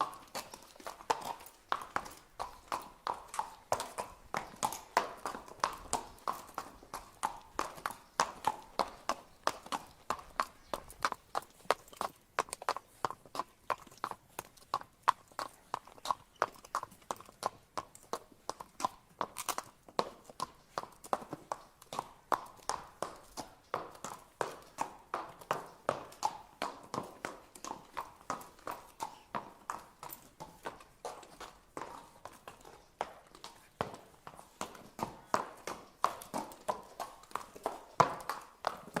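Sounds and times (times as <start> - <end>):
horse hooves clip-clopping: 0.0 - 39.0.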